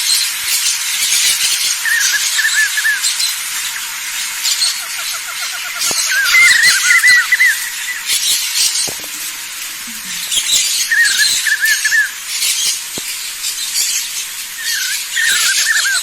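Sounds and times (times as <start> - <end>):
insects buzzing: 0.2 - 16.0
bird whistling: 1.6 - 3.8, 4.4 - 16.0.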